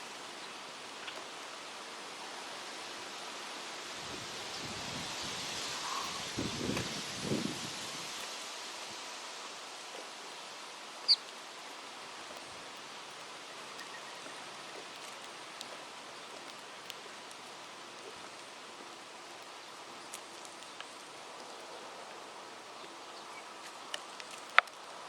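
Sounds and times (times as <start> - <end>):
wind rustling leaves: 0.0 - 25.0.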